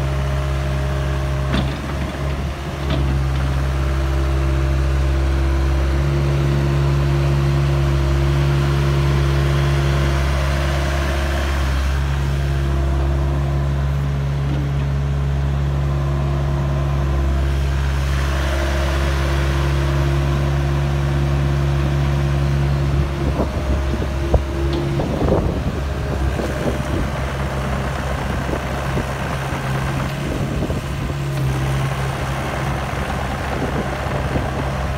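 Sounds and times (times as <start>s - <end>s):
excavator diesel engine humming: 0.0s - 34.9s
rough engine rumble with knock: 0.0s - 34.9s.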